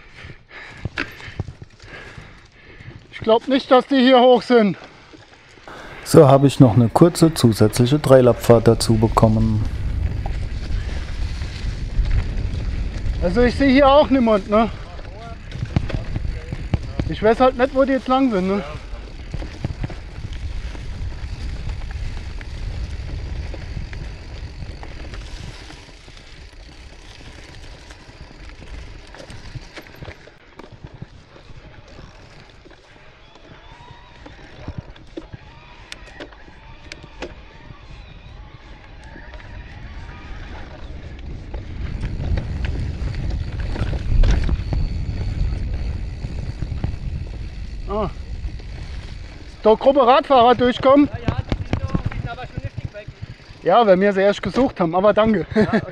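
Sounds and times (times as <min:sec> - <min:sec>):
bike clicks and rattles: 0:00.0 - 0:55.9
wind rumbling on microphone: 0:05.7 - 0:55.9.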